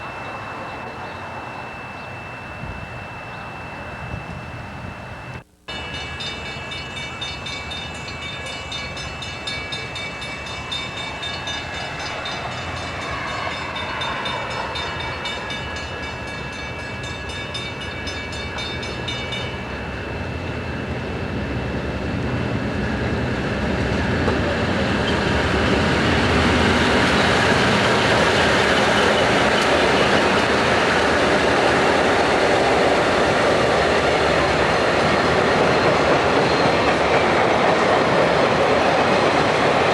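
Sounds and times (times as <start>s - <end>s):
crossing bell ringing: 0.0s - 39.9s
train rumble: 0.0s - 39.9s.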